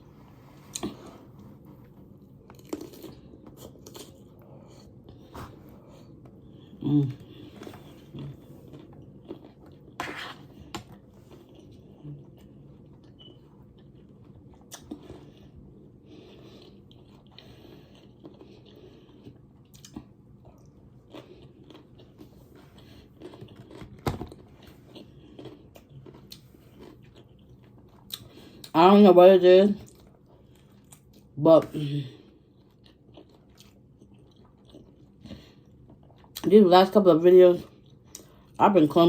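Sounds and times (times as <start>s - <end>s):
person chewing food: 0.0s - 28.8s, 29.8s - 31.4s, 32.1s - 36.5s, 37.6s - 38.6s.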